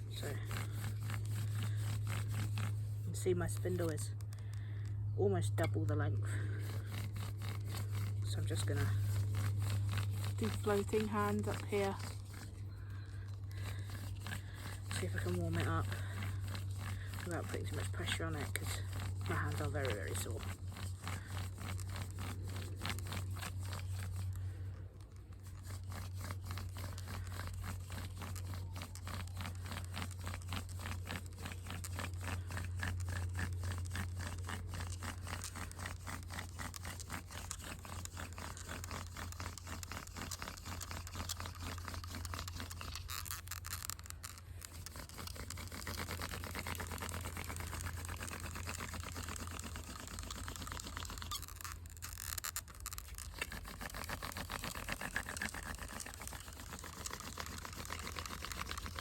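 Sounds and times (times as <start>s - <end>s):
wooden spindle grinding on board: 0.0s - 59.0s.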